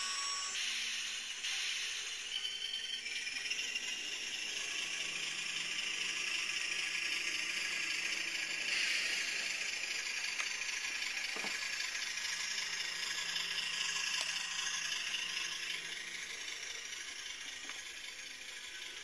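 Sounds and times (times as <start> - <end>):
thin rattly diesel engine sound: 0.0 - 19.0.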